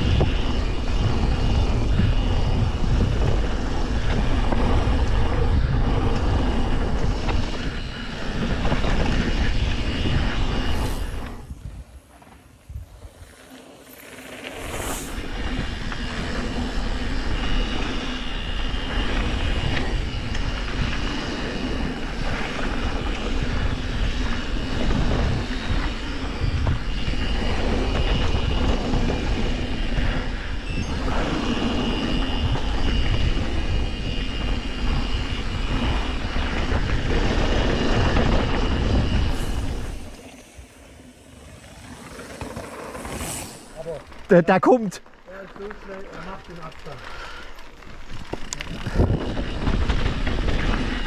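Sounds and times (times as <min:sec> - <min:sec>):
thin high whine: 0:00.0 - 0:45.1
bike tyres rolling on gravel: 0:00.0 - 0:51.0
wind buffeting microphone: 0:00.0 - 0:51.0.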